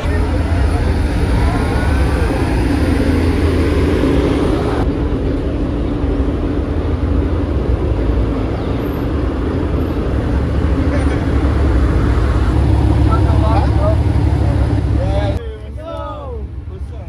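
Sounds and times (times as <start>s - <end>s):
pickup truck engine rumble: 0.0s - 15.6s.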